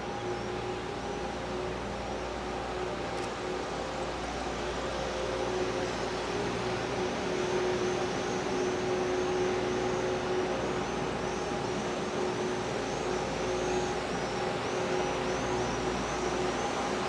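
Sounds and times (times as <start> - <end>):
electric locomotive hum: 0.0 - 17.0.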